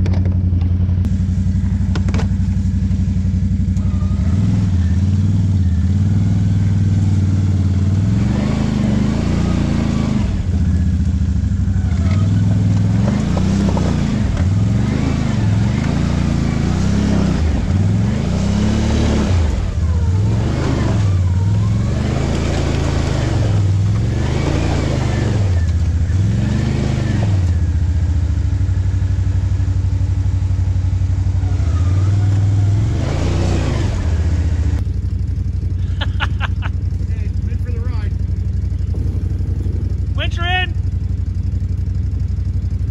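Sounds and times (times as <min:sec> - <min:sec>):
atv engine revving: 0:00.0 - 0:42.9.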